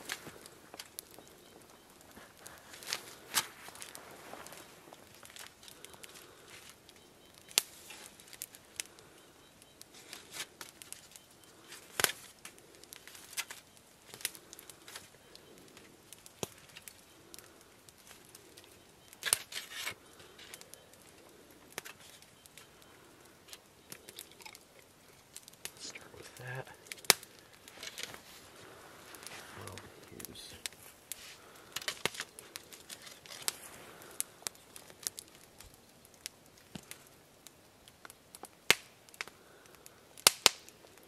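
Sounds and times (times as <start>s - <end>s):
aluminium foil crinkling: 0.0s - 41.0s
campfire crackling and popping: 0.0s - 41.0s.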